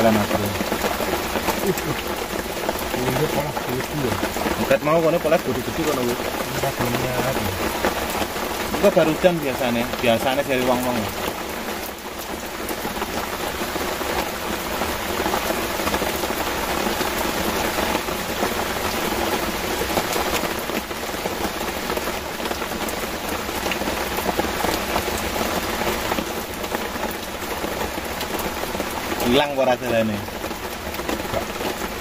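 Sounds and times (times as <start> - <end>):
heavy rain on water: 0.0 - 32.0.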